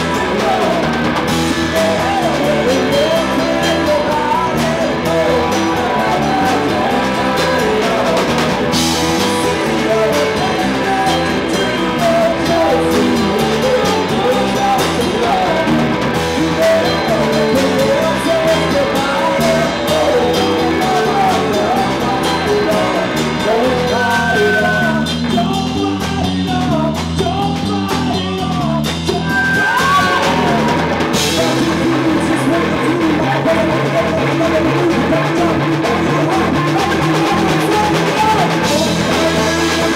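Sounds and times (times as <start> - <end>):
drum kit: 0.0 - 39.9
electric bass: 0.0 - 39.9
electric guitar: 0.0 - 39.9
man singing into a microphone: 0.0 - 39.9.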